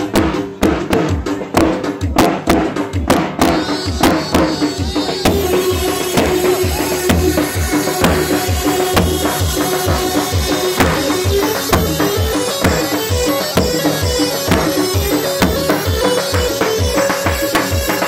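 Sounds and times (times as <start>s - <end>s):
bass drum steady beat: 0.0s - 18.0s
sustained melody line: 3.3s - 18.0s.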